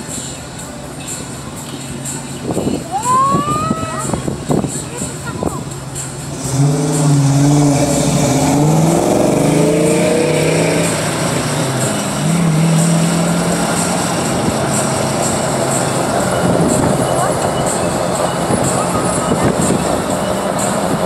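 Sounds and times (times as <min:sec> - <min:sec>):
car engine accelerating: 0:00.0 - 0:21.0
steady engine note: 0:00.0 - 0:21.0
traffic noise: 0:00.0 - 0:21.0.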